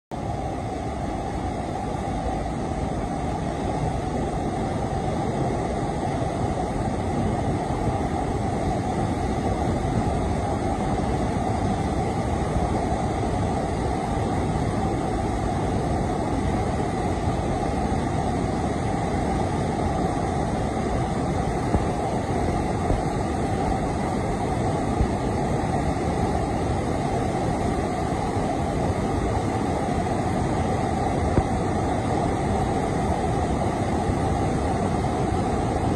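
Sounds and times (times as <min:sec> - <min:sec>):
waterfall roar: 0:00.2 - 0:35.9.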